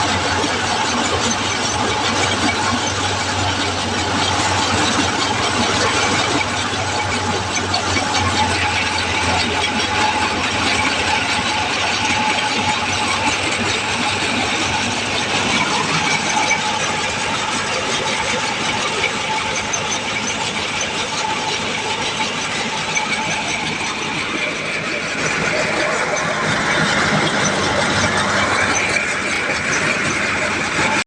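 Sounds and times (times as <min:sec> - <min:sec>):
machine engine humming: 0:00.0 - 0:31.0.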